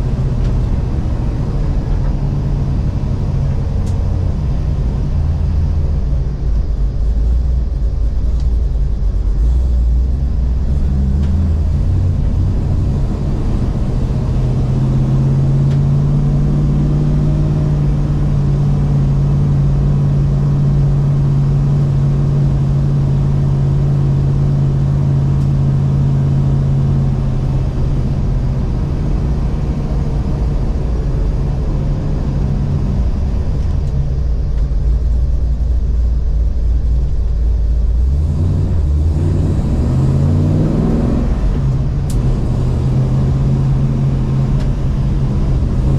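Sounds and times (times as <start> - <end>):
race car engine drone: 0.0 - 45.9.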